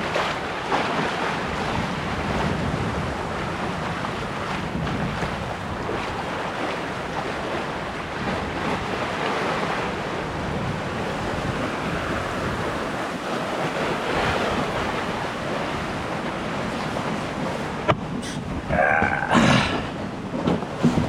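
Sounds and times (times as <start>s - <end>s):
wind and water rushing: 0.0s - 21.0s
wind buffeting microphone: 0.0s - 21.0s.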